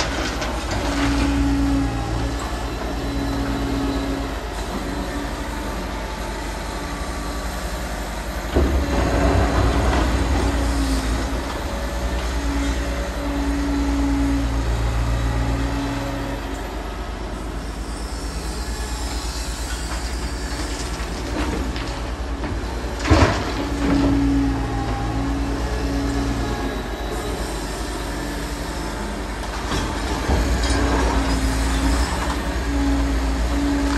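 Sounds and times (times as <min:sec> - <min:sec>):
excavator engine and hydraulics rumbling: 0:00.0 - 0:33.9.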